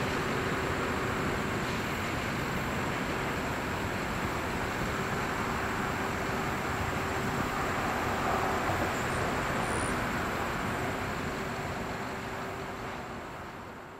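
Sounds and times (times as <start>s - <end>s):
train wheels rumbling on track: 0.0s - 13.9s.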